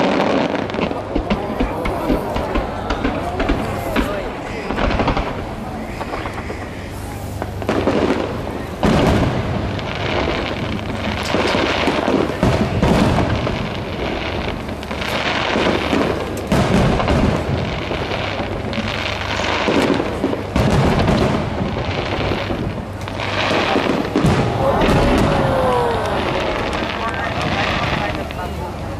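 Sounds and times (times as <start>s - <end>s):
fireworks crackling: 0.0s - 28.9s.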